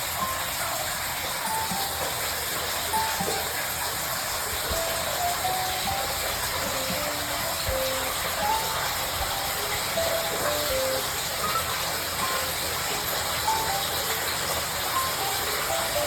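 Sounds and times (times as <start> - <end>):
light background music: 0.0 - 16.0
water pouring into bathtub: 0.0 - 16.0.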